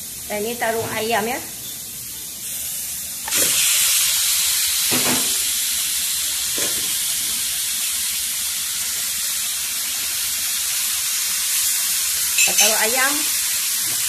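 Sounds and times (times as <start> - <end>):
chicken sizzling in a wok: 0.0 - 14.0.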